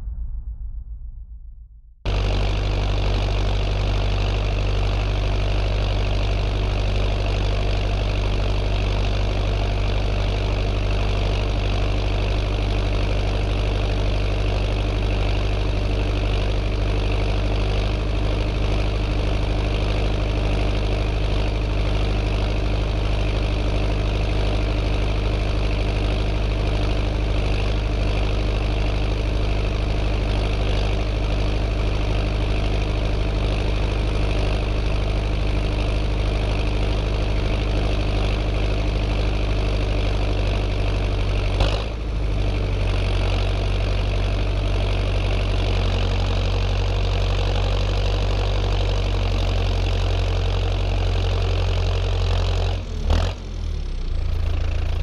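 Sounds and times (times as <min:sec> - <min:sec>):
tractor diesel engine running: 0:02.0 - 0:55.0.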